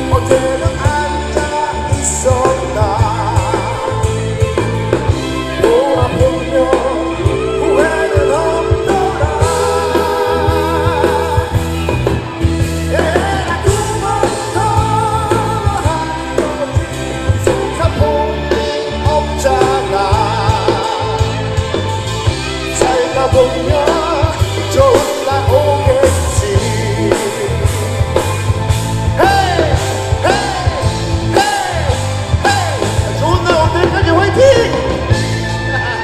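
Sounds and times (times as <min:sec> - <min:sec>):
man singing: 0:00.0 - 0:22.0, 0:22.6 - 0:28.2, 0:29.1 - 0:36.0
bass guitar: 0:00.0 - 0:36.0
drum kit: 0:00.0 - 0:36.0
electric guitar: 0:00.0 - 0:36.0.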